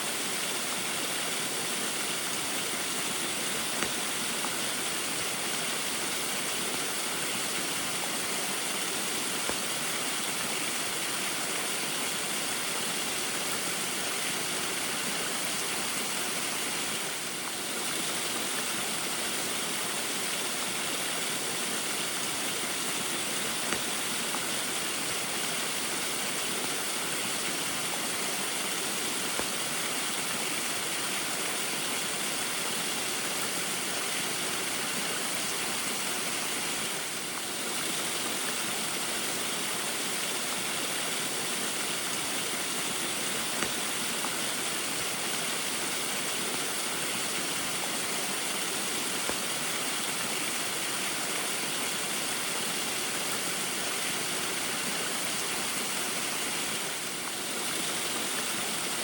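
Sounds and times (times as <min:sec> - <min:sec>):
rain: 0:00.0 - 0:59.0
waterfall rushing and splashing: 0:00.0 - 0:59.0.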